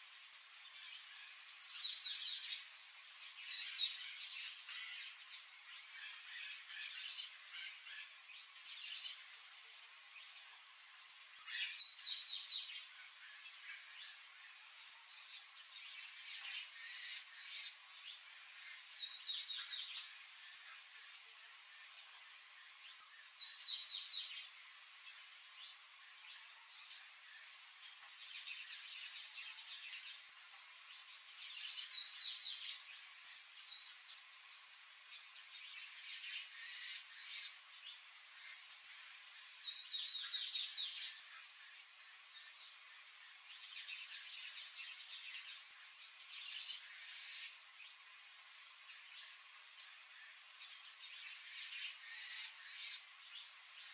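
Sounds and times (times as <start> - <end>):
faint background hiss: 0.0 - 53.9.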